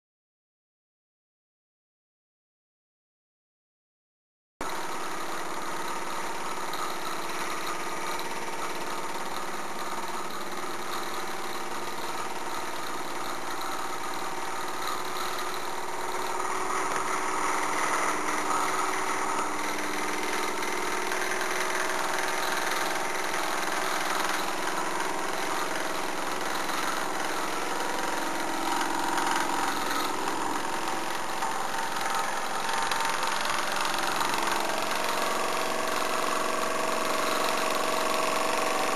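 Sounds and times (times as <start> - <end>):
toy steam engine running: 4.6 - 38.9.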